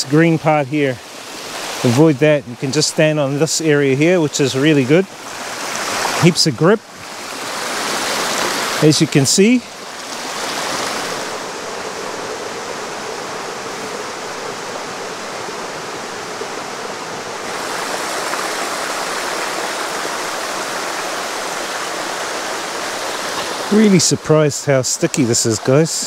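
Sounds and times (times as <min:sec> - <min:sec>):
water rushing down cascades: 0:00.0 - 0:26.0.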